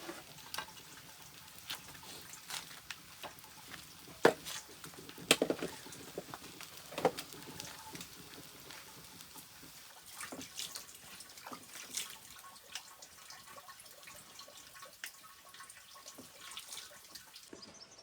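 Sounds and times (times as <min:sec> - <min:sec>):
water splashing and dribbling: 0:00.0 - 0:17.6.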